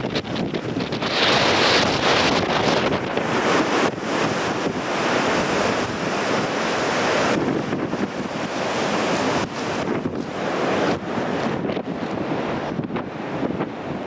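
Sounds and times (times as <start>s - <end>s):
surf breaking on rocks: 0.0s - 14.0s
wind buffeting microphone: 0.0s - 14.0s.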